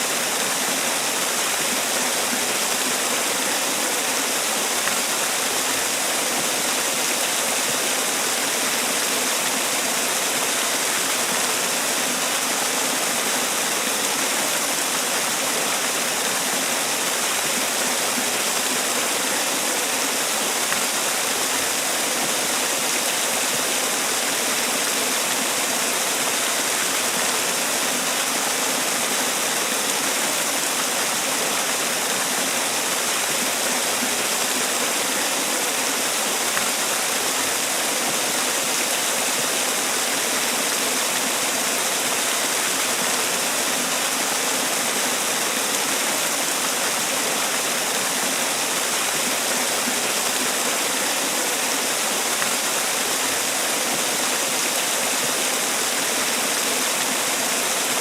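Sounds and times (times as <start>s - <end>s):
waterfall pouring and splashing: 0.0s - 58.0s.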